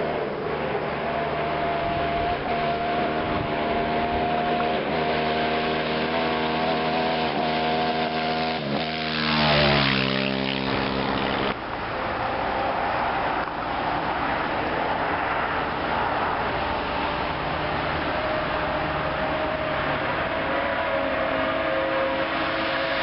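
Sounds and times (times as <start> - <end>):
racing car engine passing: 0.0 - 23.0.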